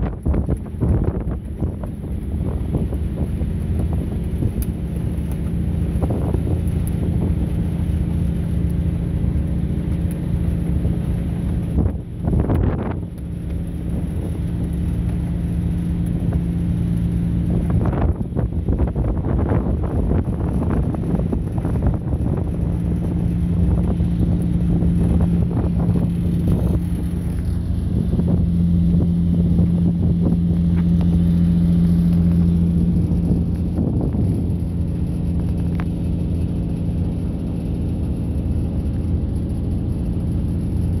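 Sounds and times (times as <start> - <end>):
boat engine droning: 0.0 - 41.0
wind buffeting microphone: 0.0 - 41.0.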